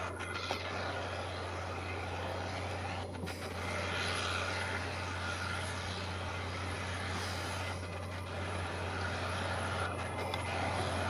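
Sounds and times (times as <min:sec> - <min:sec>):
broad rush of noise: 0:00.0 - 0:11.0
tractor diesel engine drone: 0:00.0 - 0:11.0.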